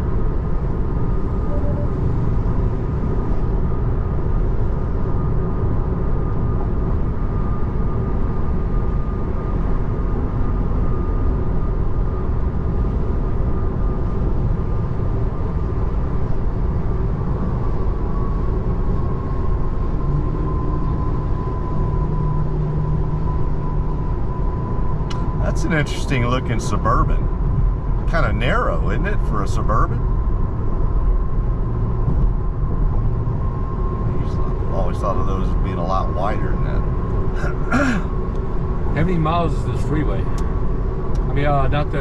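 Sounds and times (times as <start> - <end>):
road and tyre rumble in car: 0.0 - 42.0
thin whine: 0.0 - 42.0.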